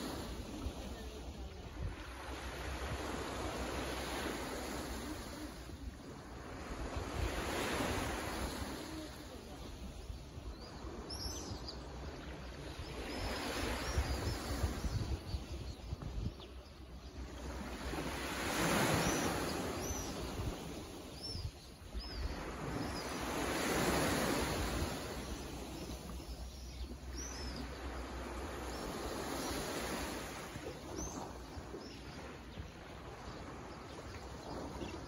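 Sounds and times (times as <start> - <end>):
small waves washing onto beach: 0.0 - 35.0.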